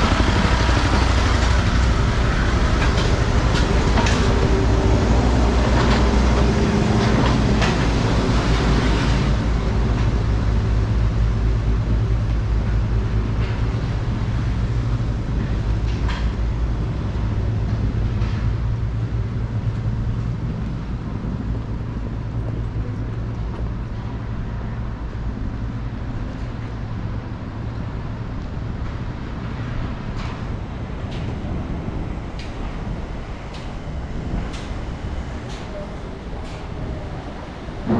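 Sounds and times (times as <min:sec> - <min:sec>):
passing vehicles rumbling: 0:00.0 - 0:37.9.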